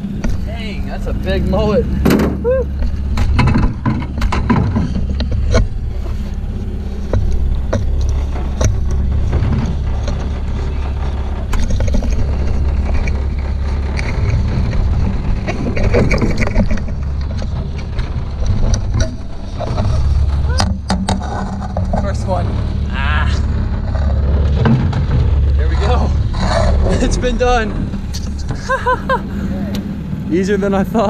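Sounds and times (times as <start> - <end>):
outboard motor running: 0.0 - 31.0.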